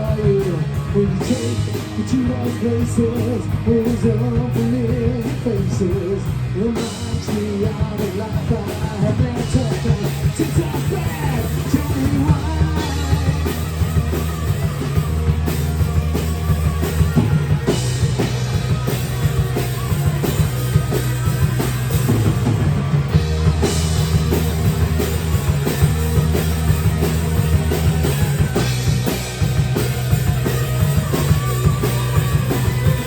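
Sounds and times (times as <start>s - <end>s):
bass guitar: 0.0s - 33.0s
drum kit: 0.0s - 33.0s
live rock band instrumental: 0.0s - 33.0s.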